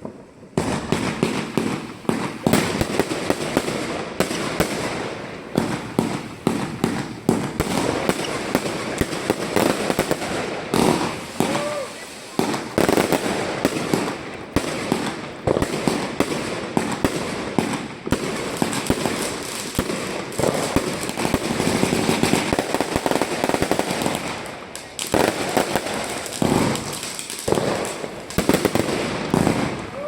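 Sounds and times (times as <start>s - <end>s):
fireworks bangs with crackle: 0.0s - 30.0s.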